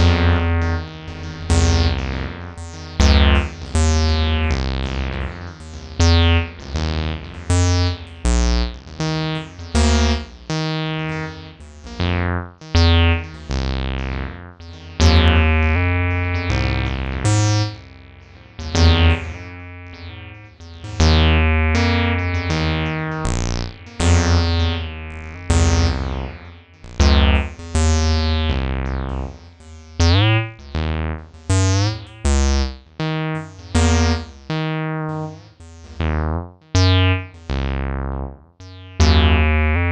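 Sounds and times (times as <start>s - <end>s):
acid synth bass line: 0.0s - 39.9s.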